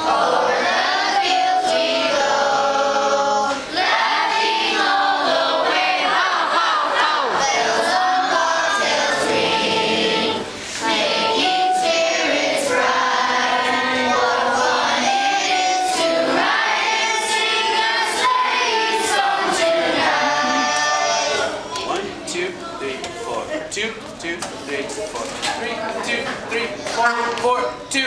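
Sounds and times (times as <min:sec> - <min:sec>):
children singing: 0:00.0 - 0:23.0.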